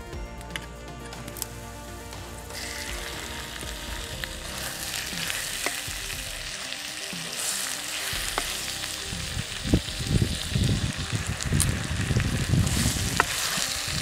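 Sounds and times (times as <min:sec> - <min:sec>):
meat sizzling in hot oil: 0:01.3 - 0:14.0.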